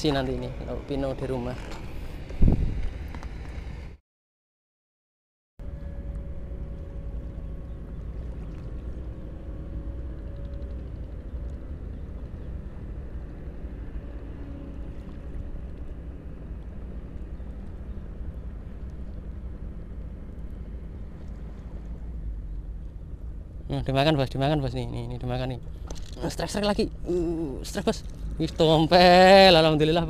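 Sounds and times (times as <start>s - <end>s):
boat engine drone: 0.0s - 4.0s, 5.6s - 30.0s.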